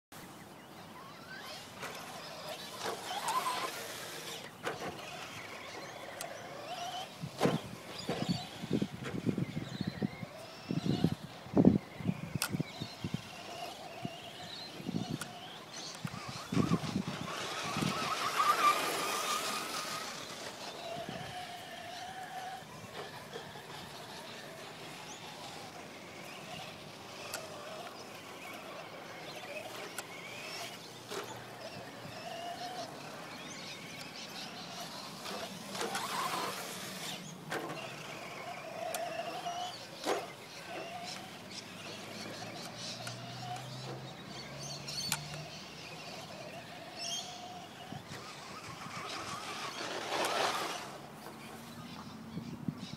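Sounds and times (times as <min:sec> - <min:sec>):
electric motor whining: 0:00.5 - 0:52.9.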